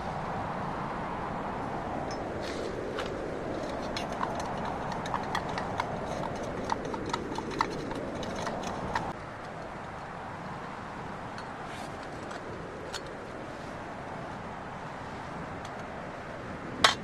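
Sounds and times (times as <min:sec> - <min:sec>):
steady wind noise: 0:00.0 - 0:17.0.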